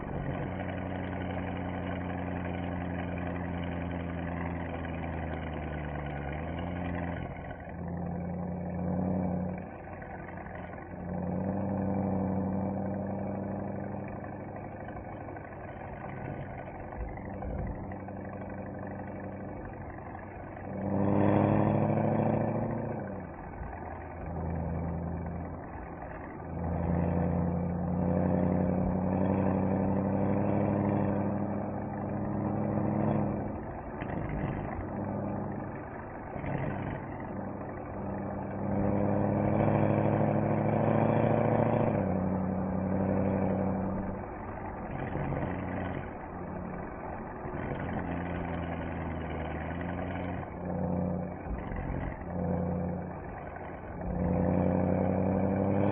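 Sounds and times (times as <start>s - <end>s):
car engine and exhaust cruising: 0.0s - 55.9s.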